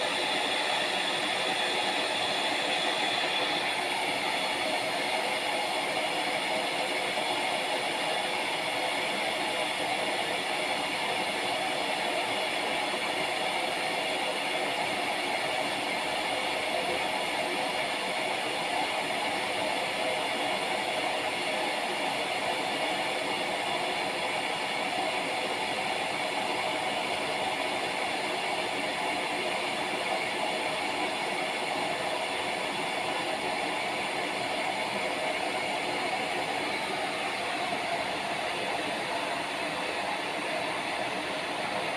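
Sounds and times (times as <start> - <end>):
electric kettle heating water: 0.0 - 41.9.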